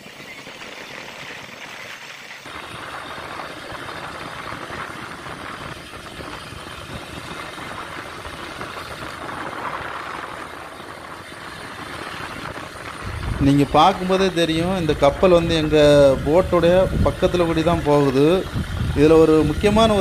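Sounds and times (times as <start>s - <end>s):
boat engine running: 0.0s - 20.0s
wind on microphone: 2.5s - 20.0s.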